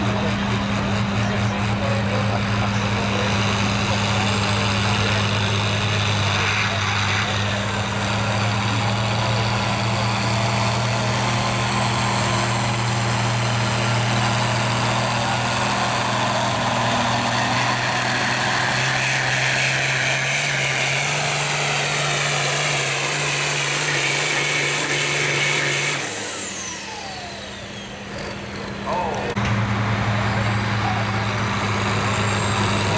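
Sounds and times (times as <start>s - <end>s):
high turbo whine: 0.0s - 32.9s
tractor diesel engine under load: 0.0s - 32.9s.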